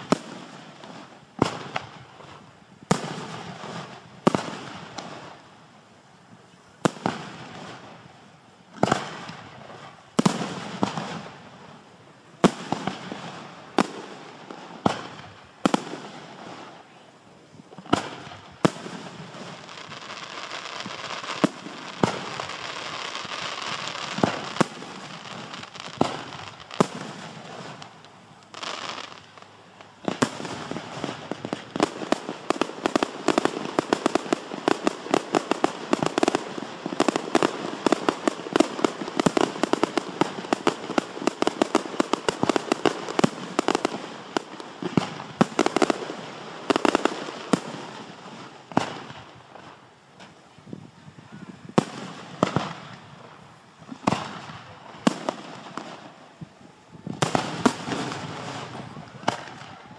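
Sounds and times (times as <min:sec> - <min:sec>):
fireworks bangs: 0:00.0 - 0:05.5, 0:06.8 - 0:59.9
fireworks hiss: 0:00.0 - 0:59.9
fireworks popping and crackling: 0:00.0 - 0:59.9.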